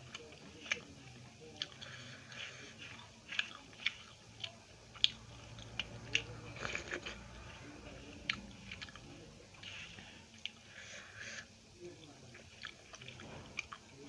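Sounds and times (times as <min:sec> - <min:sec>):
mouth chewing food: 0:00.0 - 0:14.0.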